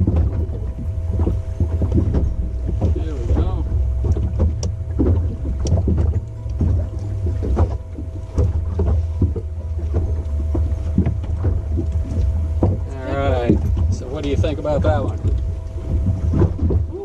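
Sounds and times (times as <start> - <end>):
faint steady hum: 0.0 - 17.0
fish knocking in boat: 0.0 - 17.0
wind rumble on microphone: 0.0 - 17.0.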